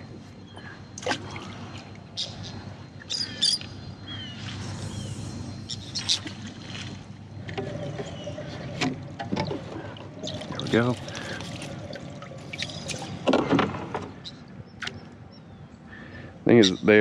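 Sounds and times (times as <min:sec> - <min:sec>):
wind and water: 0:00.0 - 0:17.0.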